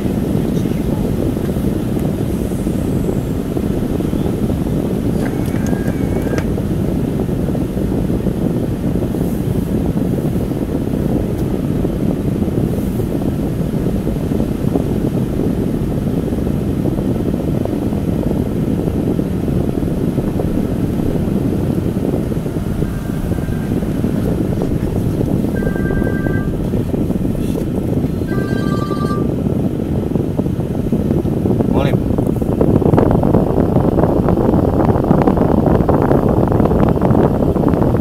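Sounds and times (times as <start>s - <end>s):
car engine and tyres in water: 0.0s - 34.4s.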